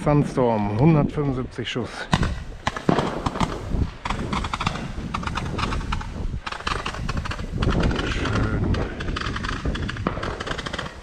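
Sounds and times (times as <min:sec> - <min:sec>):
fireworks bangs and crackling: 0:01.9 - 0:11.0.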